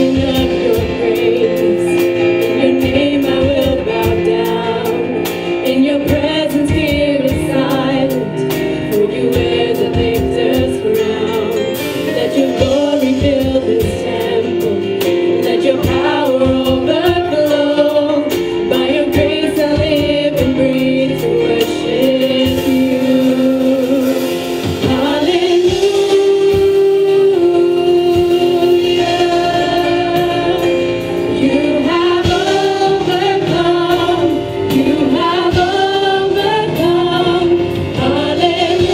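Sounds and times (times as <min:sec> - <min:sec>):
women singing worship song: 0:00.0 - 0:38.9.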